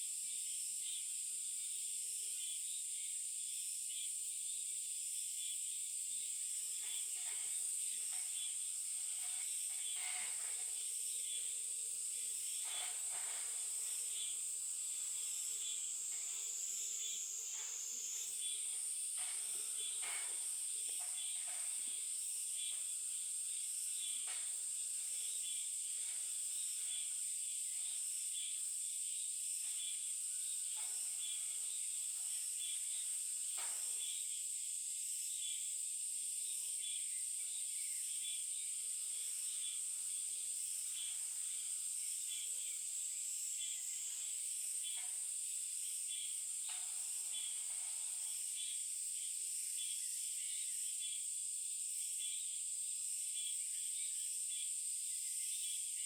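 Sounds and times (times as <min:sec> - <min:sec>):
faint chirps and ticks: 0:00.0 - 0:56.0
insects droning: 0:00.1 - 0:56.0.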